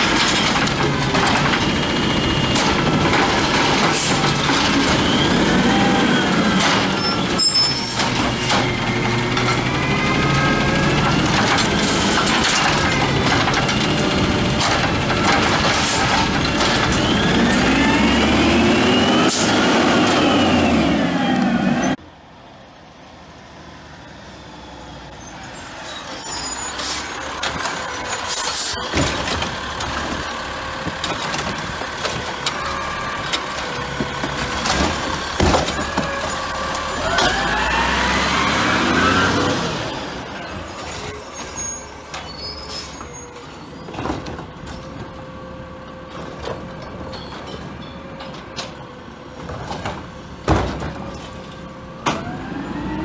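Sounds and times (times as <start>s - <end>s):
garbage truck diesel engine: 0.0s - 53.0s.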